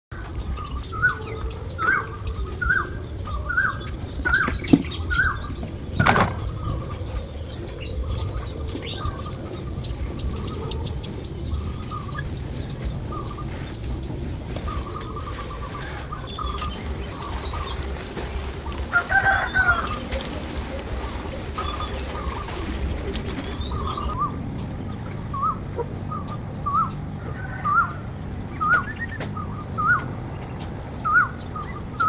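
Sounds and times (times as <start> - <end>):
high bird chirps: 0.2 - 32.0
steady low rumble: 0.2 - 32.0.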